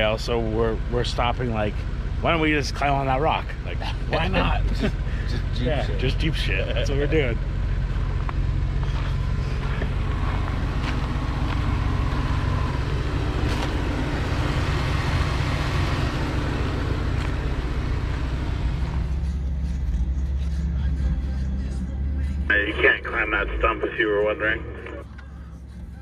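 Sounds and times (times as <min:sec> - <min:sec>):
car engine low drone: 0:00.0 - 0:26.0.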